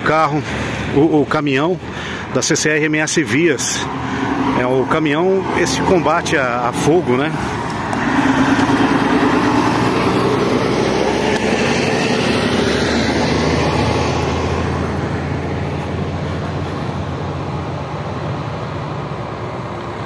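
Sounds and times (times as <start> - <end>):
heavy truck driving past: 3.0 - 20.0.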